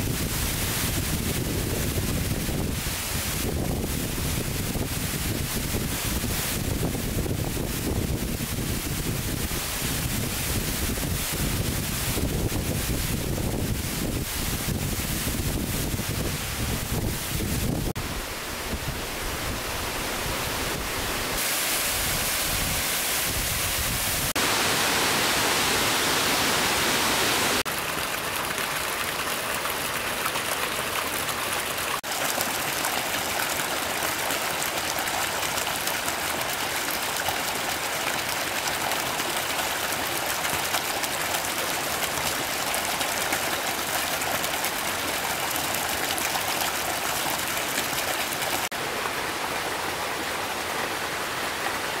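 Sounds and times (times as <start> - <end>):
running water rushing: 0.0 - 52.0.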